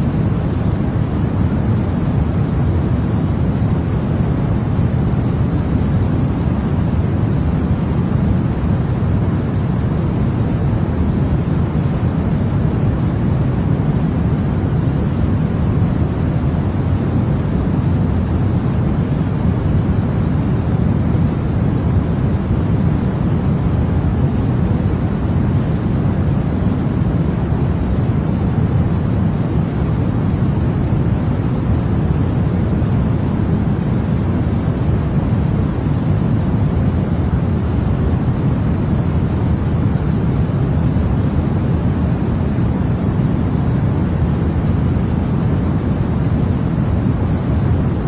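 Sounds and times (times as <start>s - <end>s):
white noise hiss: 0.0s - 48.0s.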